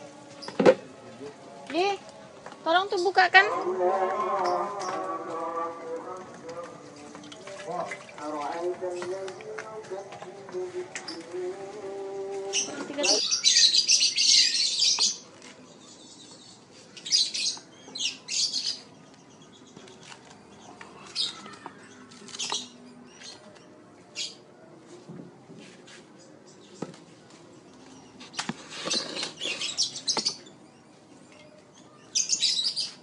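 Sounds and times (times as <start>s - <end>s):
small birds chirping: 2.7s - 24.5s, 25.9s - 33.0s.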